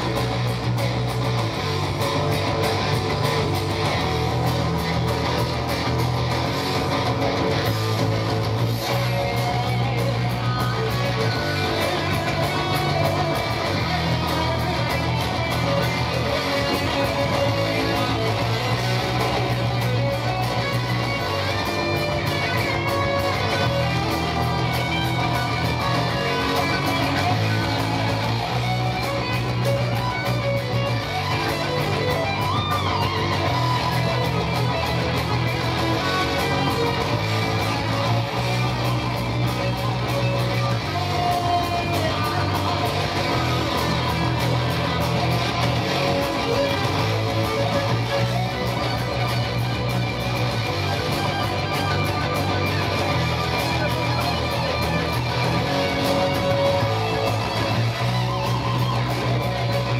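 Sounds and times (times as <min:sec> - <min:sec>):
distorted electric guitar: 0:00.0 - 0:59.9
electric bass riff: 0:00.0 - 0:59.9.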